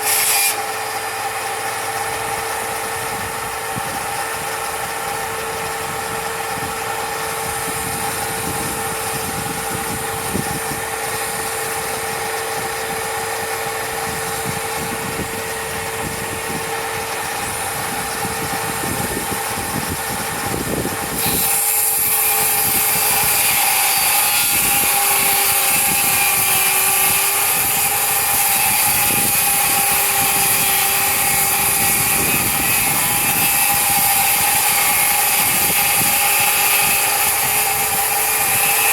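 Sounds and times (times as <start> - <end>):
electric power tool whine: 0.0 - 38.9.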